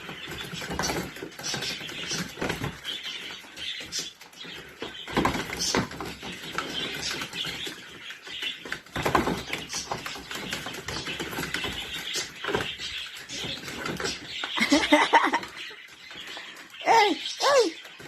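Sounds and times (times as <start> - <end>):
puppies scuffling clicks and scratches: 0.0 - 16.8.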